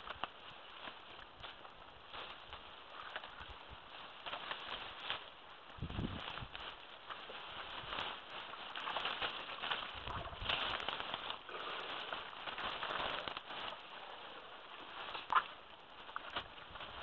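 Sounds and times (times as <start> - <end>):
crackly hiss with small clicks: 0.0 - 17.0.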